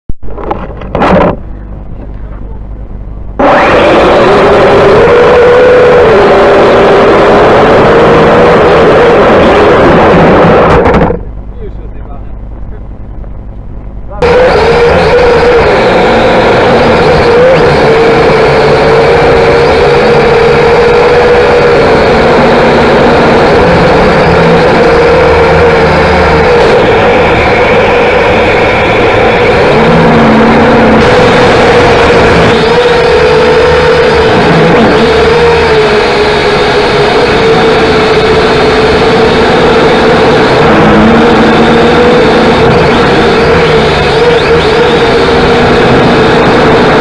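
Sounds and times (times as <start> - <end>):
drone propellers whining: 0.2 - 13.2, 14.0 - 47.0.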